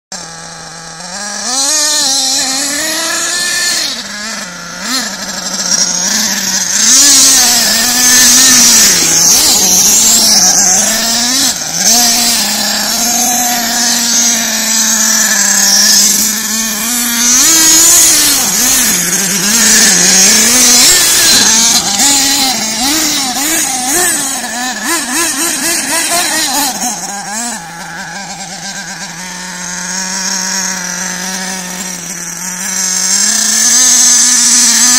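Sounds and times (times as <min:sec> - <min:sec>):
model car engine revving: 0:00.1 - 0:34.9.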